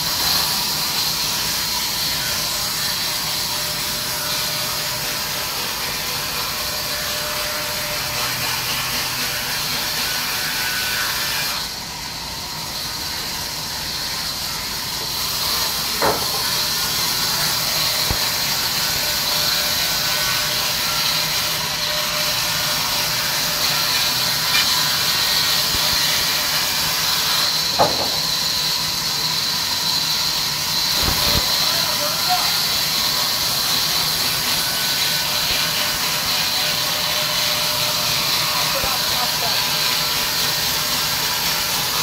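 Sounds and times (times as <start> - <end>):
band saw blade cutting wood: 0.0 - 42.0.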